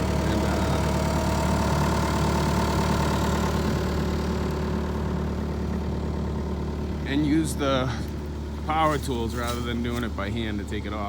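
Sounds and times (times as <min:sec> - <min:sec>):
excavator diesel engine idling: 0:00.0 - 0:11.0.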